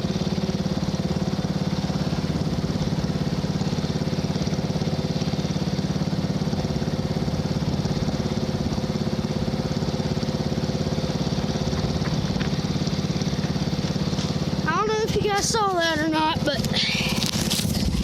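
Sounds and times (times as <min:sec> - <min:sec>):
riding lawn mower engine running: 0:00.0 - 0:18.0.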